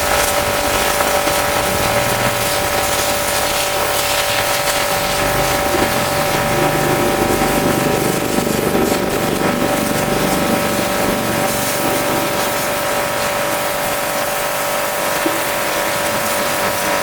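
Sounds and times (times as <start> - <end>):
pressure washer motor whine: 0.0 - 17.0
water jet hissing: 0.0 - 17.0.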